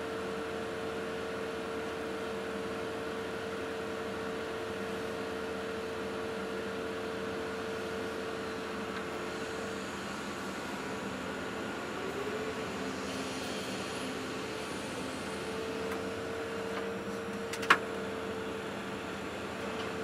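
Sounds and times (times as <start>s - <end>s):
excavator engine and hydraulics: 0.1s - 20.0s.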